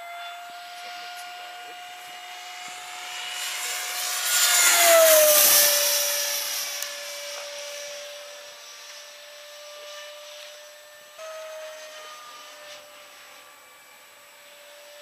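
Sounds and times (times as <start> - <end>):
model jet fan whine flying past: 0.0 - 15.0.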